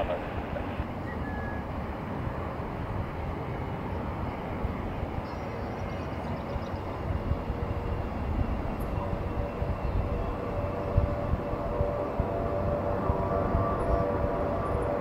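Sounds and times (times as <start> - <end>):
faint steady engine tone: 0.0 - 15.0
jet engines rumbling: 0.0 - 15.0.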